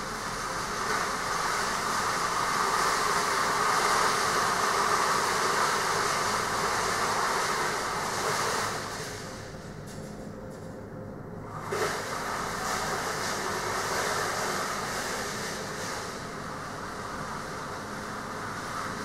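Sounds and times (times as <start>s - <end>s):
mechanical drone with low hum: 0.0s - 19.0s.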